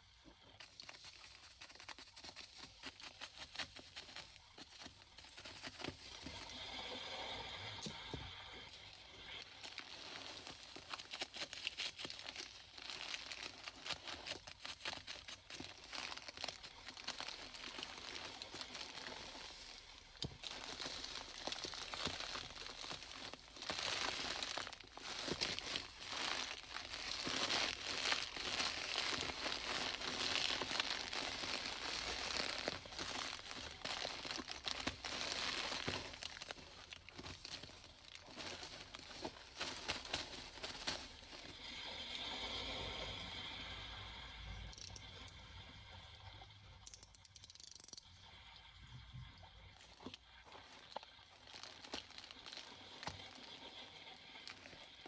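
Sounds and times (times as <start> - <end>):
litter crinkling and crumpling: 0.0 - 7.0, 8.7 - 41.9, 49.8 - 55.0.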